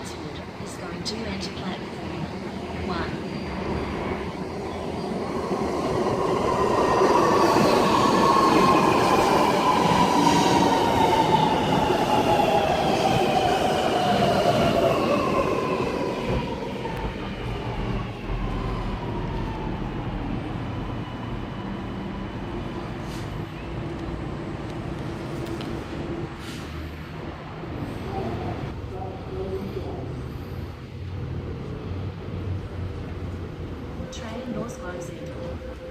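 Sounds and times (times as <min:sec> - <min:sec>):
low hum of standing train: 0:00.0 - 0:35.9
metro train braking to a stop: 0:01.5 - 0:24.6, 0:26.1 - 0:32.6.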